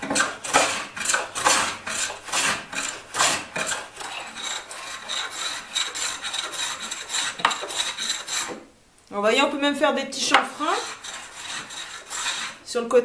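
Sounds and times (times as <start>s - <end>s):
hand plane rasping on wood: 0.0s - 8.6s, 10.3s - 12.6s.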